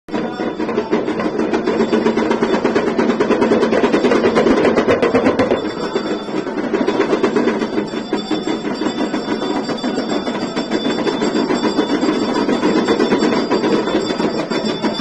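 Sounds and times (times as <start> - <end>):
drum beaten rapidly: 0.1 - 15.0
temple bells ringing: 0.1 - 15.0.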